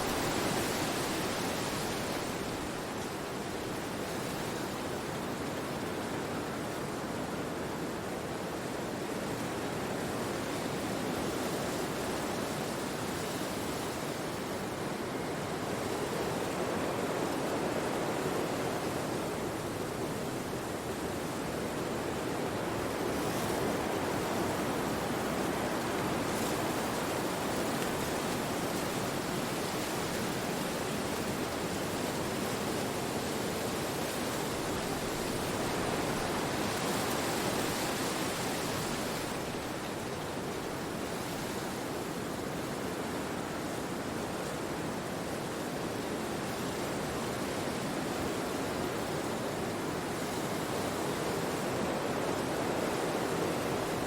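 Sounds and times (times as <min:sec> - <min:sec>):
wind rushing through trees: 0:00.0 - 0:54.0.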